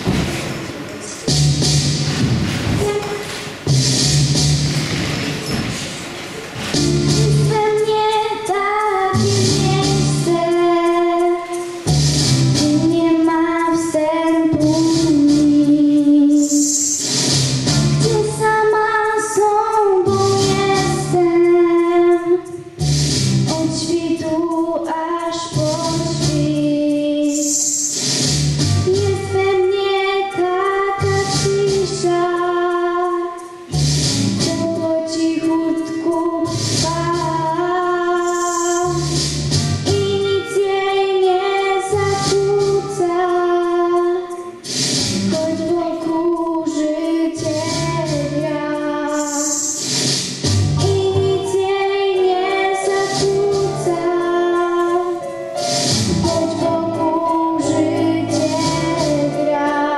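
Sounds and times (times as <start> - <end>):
recorded backing track: 0.0 - 59.9
girl singing into a microphone: 2.5 - 3.5, 6.7 - 17.0, 17.9 - 27.9, 28.8 - 44.6, 45.2 - 49.8, 50.7 - 55.6, 56.2 - 59.9.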